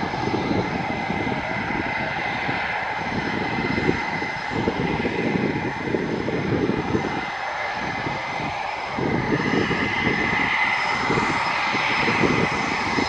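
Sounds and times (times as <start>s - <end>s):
jet engine roar: 0.0s - 13.0s
low rumble: 0.0s - 13.0s
thin high whine: 0.0s - 13.0s.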